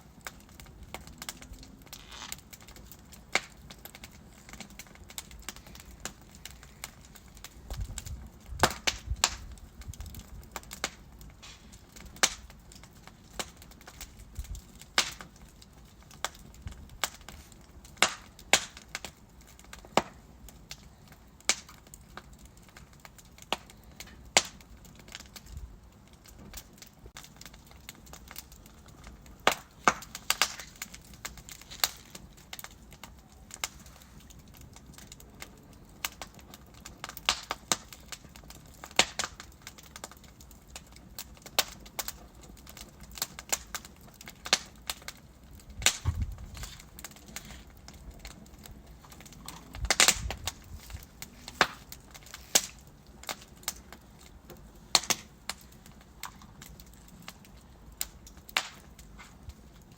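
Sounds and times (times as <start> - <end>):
soft steady fire hiss: 0.0 - 59.9
wood fire crackling and popping: 0.0 - 59.9.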